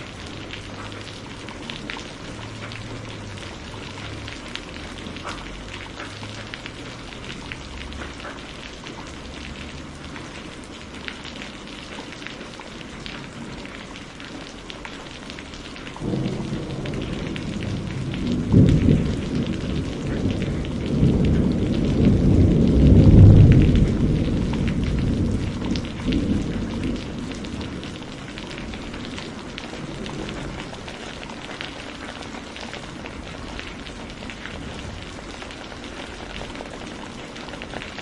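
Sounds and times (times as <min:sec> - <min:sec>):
low rumble of thunder: 0:00.0 - 0:08.3, 0:15.4 - 0:38.0
raindrops landing close by: 0:00.0 - 0:38.0
steady rain: 0:00.0 - 0:38.0.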